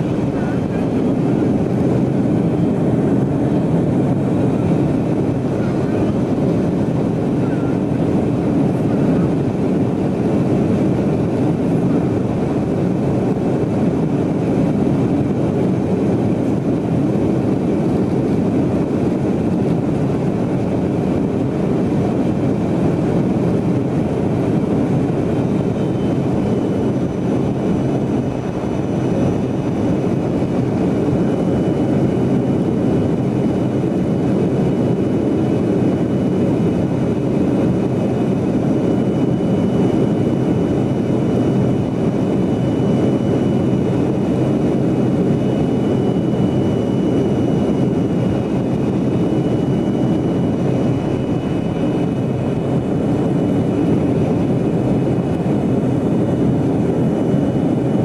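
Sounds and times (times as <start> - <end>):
jet cabin airflow rush: 0.0 - 58.0.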